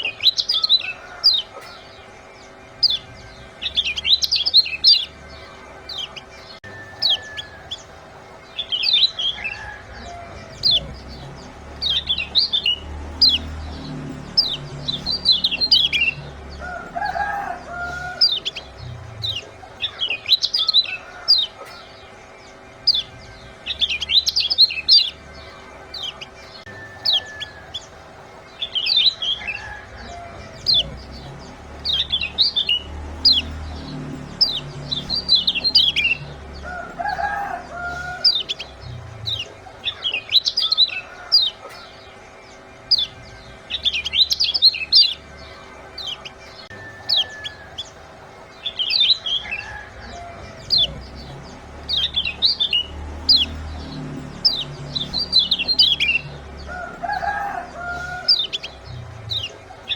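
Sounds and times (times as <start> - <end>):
bird giving high chirps: 0.0 - 59.9.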